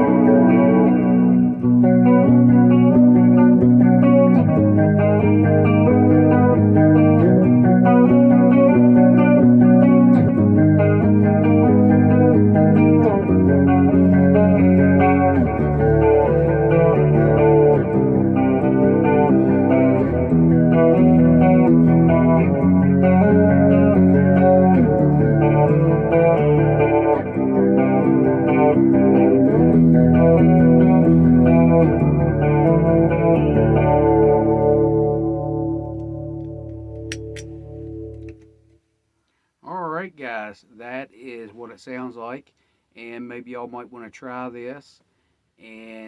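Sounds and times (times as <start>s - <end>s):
guitar playing held chords: 0.0s - 39.5s.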